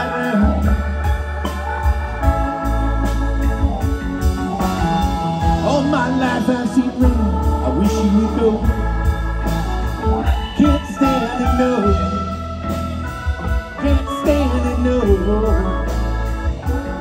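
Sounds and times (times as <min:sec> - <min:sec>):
bass and drums: 0:00.0 - 0:17.0
guitar bending notes: 0:00.0 - 0:17.0
organ-toned keyboard chords: 0:00.0 - 0:17.0.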